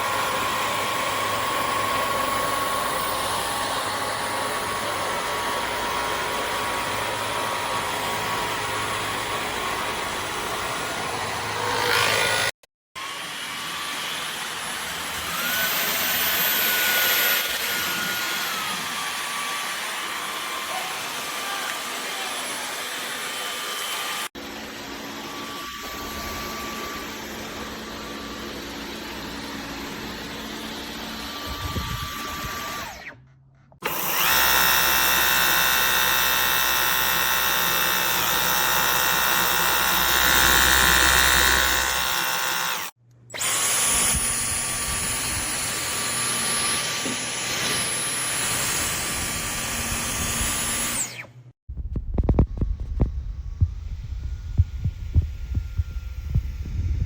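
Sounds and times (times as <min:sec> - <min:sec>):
vacuum cleaner whining: 0:00.0 - 0:12.4, 0:13.0 - 0:33.2, 0:33.8 - 0:51.4.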